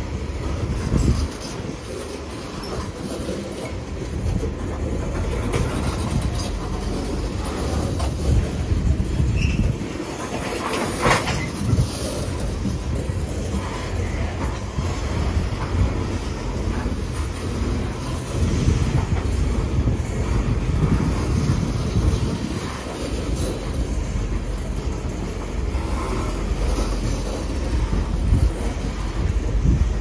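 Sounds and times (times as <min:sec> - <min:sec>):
freight train wheels on rails: 0:00.0 - 0:30.0.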